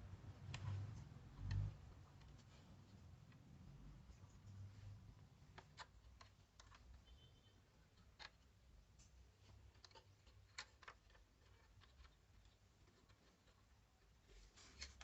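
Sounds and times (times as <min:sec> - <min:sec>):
faint irregular clicks: 0:00.3 - 0:07.1, 0:07.9 - 0:15.0.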